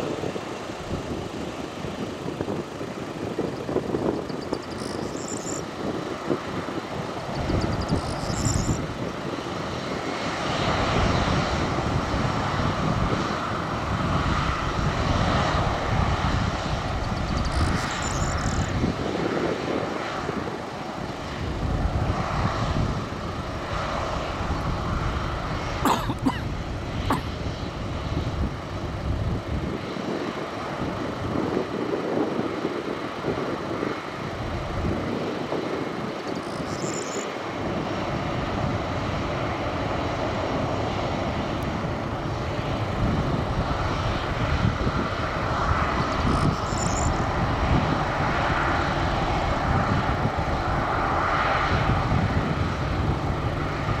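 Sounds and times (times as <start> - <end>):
jet engines at taxi thrust: 0.0 - 54.0.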